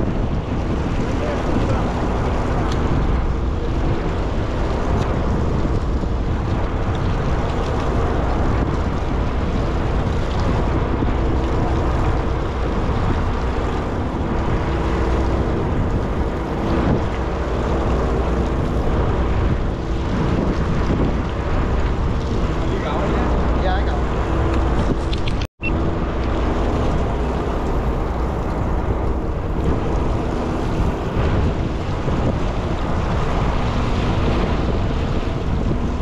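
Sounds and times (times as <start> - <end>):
boat engine humming: 0.0 - 36.0
water noise: 0.0 - 36.0
wind: 0.0 - 36.0.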